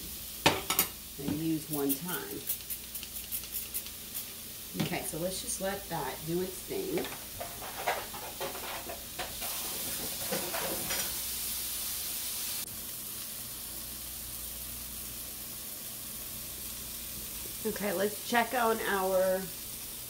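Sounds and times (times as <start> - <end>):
mushrooms sizzling in a frying pan: 0.0 - 20.0.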